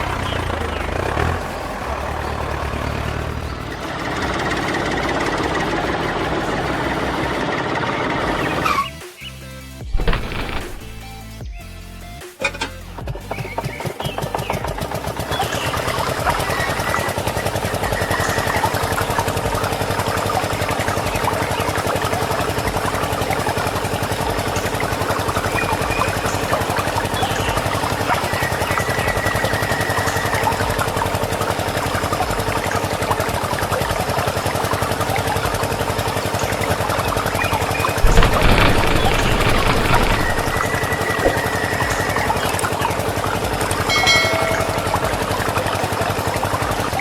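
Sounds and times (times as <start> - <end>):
engine chugging: 0.0 - 9.2, 12.2 - 47.0.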